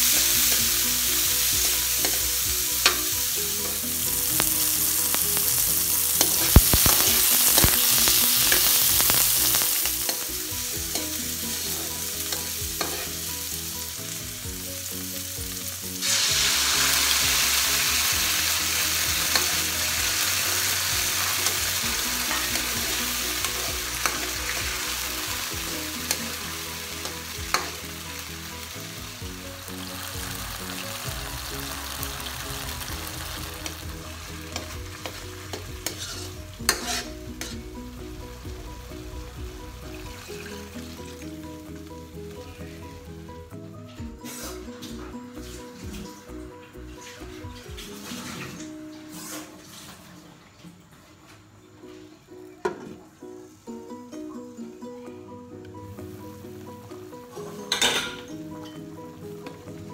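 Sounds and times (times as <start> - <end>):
food sizzling in a wok: 0.0 - 49.9, 55.9 - 59.9.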